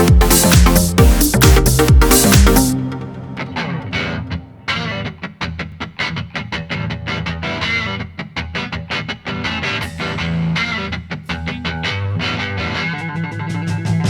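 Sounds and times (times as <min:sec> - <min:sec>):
guitar music with quick beat: 0:00.0 - 0:14.0.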